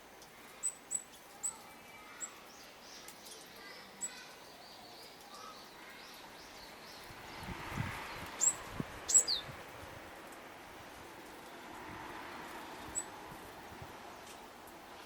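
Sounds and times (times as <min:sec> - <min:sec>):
small birds chirping: 0:00.0 - 0:10.4, 0:11.0 - 0:13.2.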